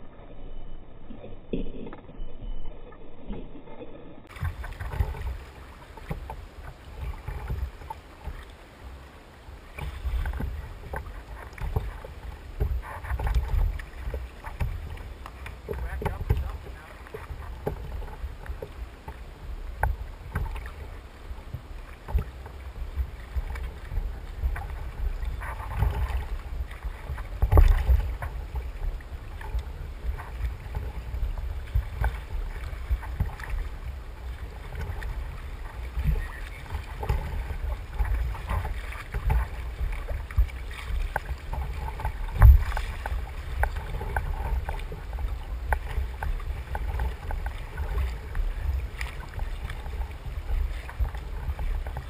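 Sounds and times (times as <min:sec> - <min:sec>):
low rumble: 0:00.0 - 0:52.0
water lapping against kayak hull: 0:00.0 - 0:52.0.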